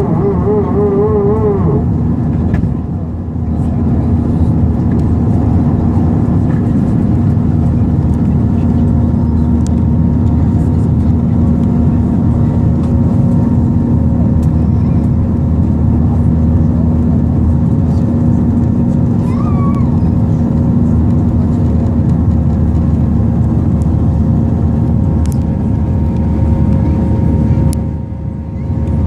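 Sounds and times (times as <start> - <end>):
airplane cabin engine drone: 0.0 - 29.0
constant low hum: 0.0 - 29.0.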